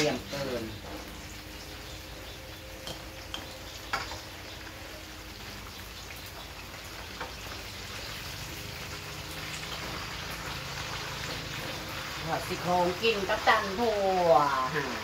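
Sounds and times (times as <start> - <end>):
ribs sizzling in oil: 0.0 - 15.0.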